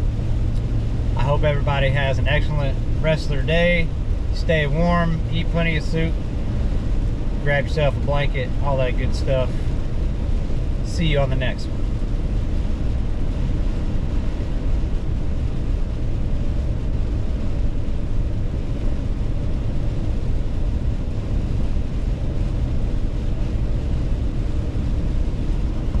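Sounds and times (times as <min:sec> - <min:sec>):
car cabin road and engine noise: 0:00.0 - 0:26.0.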